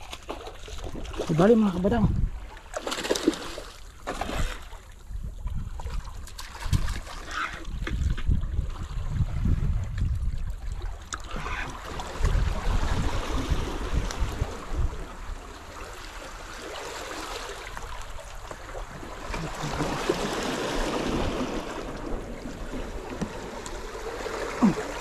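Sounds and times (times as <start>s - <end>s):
water lapping against rocks: 0.0s - 25.0s.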